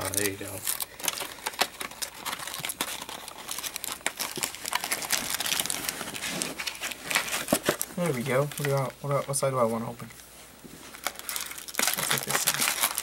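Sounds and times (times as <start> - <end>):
plastic and foil crinkling: 0.0 - 13.0.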